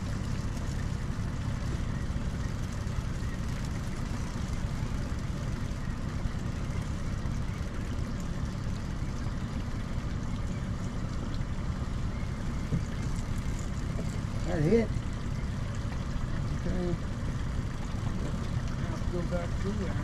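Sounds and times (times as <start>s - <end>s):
boat motor running: 0.0s - 20.0s
water and air noise: 0.0s - 20.0s.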